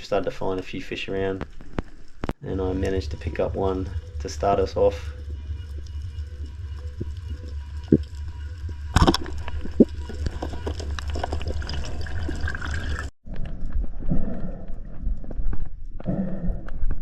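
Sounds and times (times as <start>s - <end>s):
water low rumble: 0.0s - 17.0s.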